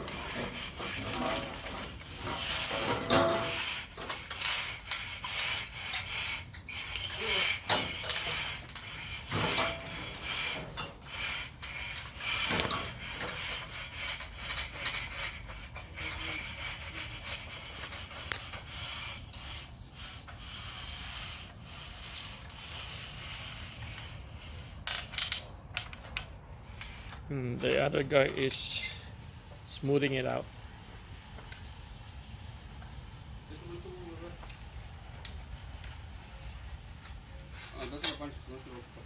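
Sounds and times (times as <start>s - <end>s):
tool scraping wet concrete: 0.0s - 25.9s, 26.6s - 39.0s.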